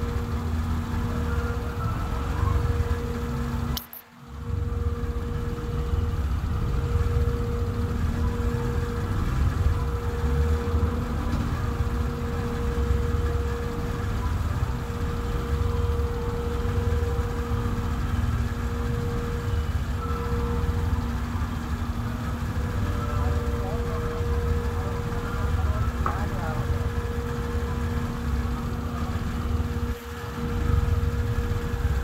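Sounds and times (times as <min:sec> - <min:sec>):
low mechanical rumble and drone: 0:00.0 - 0:32.0.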